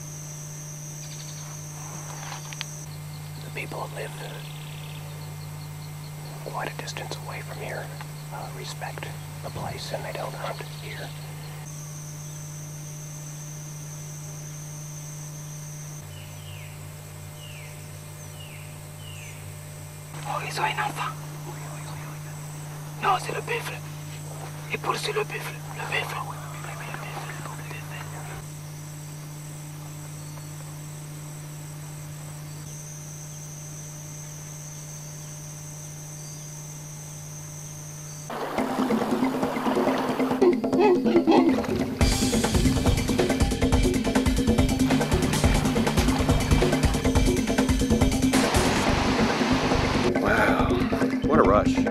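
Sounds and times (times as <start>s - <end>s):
high-pitched insect drone: 0.0s - 41.4s, 42.0s - 48.5s
constant low hum: 0.0s - 51.9s.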